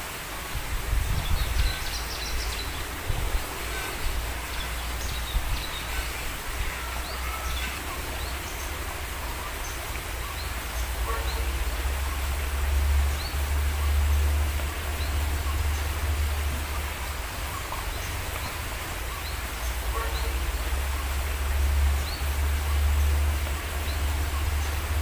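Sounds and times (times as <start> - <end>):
low rumble on microphone: 0.4 - 25.0.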